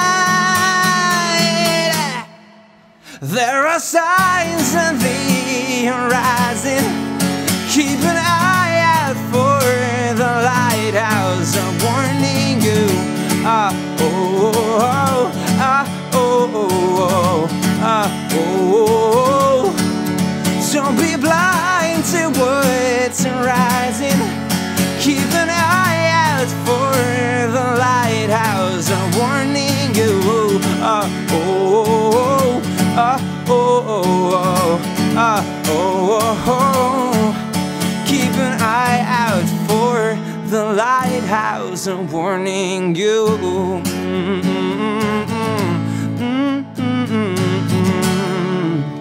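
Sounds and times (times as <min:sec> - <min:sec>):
person singing: 0:00.0 - 0:49.0
strummed acoustic guitar: 0:00.0 - 0:49.0.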